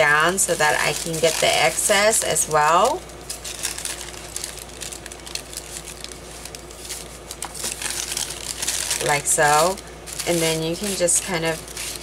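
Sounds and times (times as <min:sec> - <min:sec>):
paper crinkling: 0:00.0 - 0:12.0.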